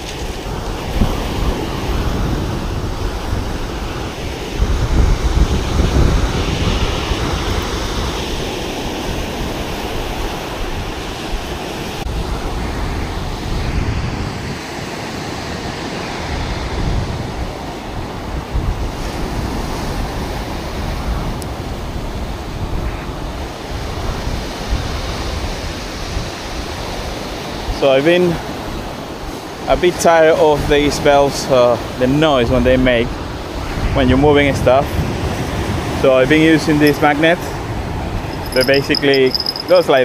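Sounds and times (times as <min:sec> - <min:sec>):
wind on microphone: 0:00.0 - 0:27.8, 0:32.5 - 0:40.0.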